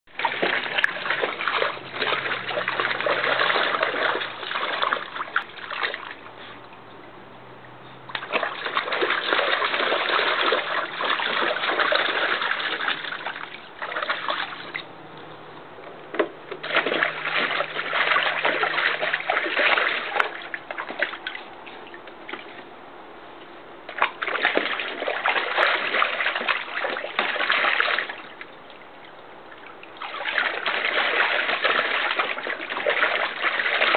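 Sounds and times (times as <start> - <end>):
dog splashing through water: 0.1 - 6.8, 8.0 - 15.4, 16.5 - 22.8, 23.9 - 33.9.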